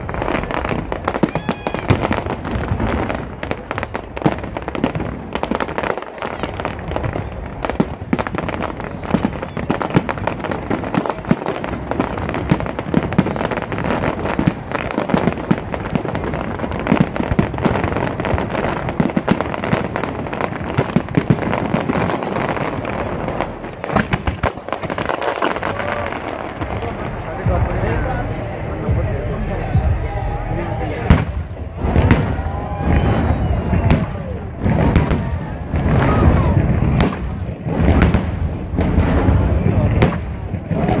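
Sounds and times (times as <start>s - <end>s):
fireworks bangs: 0.0s - 41.0s
fireworks crackling and popping: 0.0s - 41.0s.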